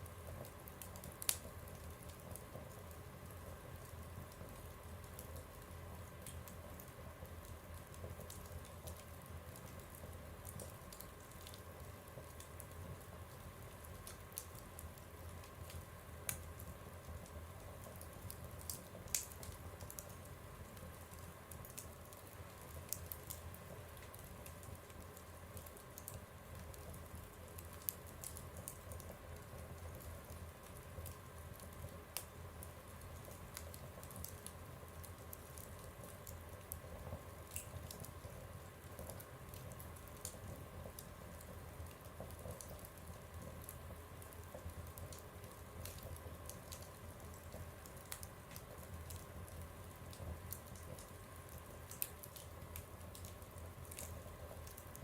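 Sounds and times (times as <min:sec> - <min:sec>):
low steady fire rumble: 0:00.0 - 0:55.0
wood fire crackling in a stove: 0:00.0 - 0:55.0.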